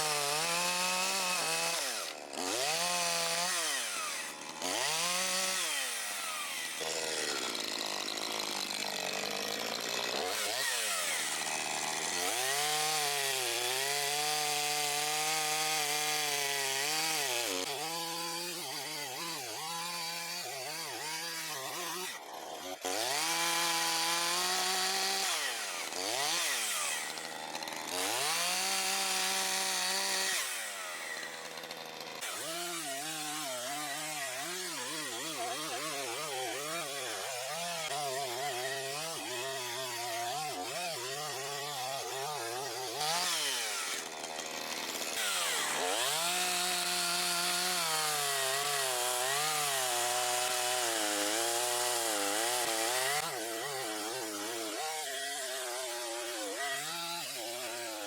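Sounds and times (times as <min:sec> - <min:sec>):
chainsaw running: 0:00.0 - 0:58.0.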